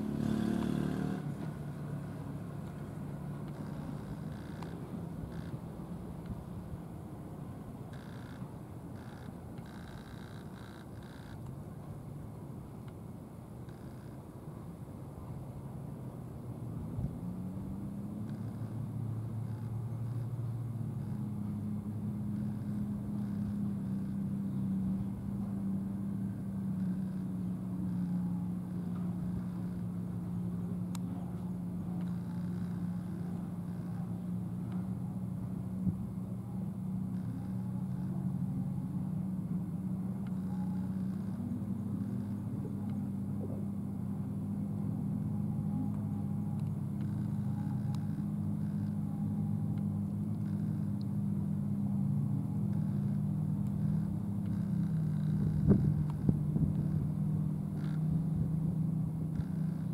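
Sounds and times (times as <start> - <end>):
low engine hum: 0.0 - 59.9.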